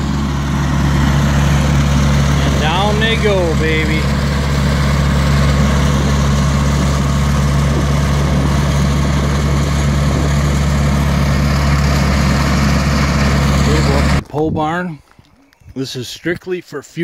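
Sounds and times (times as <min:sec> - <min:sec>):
trencher engine running: 0:00.0 - 0:14.2.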